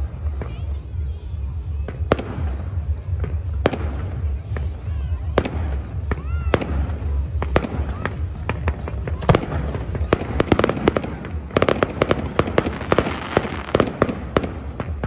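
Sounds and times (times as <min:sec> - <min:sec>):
fireworks bangs and crackling pops: 0:00.0 - 0:15.0.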